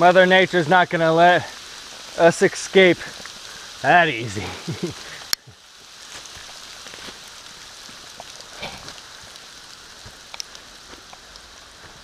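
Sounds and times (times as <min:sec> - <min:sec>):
hail pattering on leaves: 0:00.0 - 0:12.0
hailstones ticking: 0:00.0 - 0:12.0.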